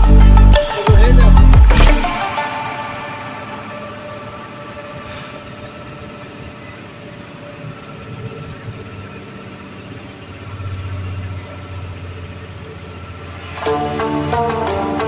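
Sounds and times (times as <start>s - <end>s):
truck driving on road: 0.0s - 15.0s
faint steady tones: 2.1s - 15.0s.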